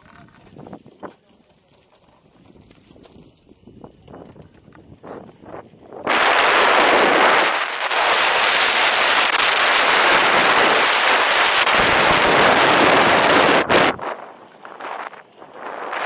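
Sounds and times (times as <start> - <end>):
wind buffeting microphone: 2.4 - 16.0.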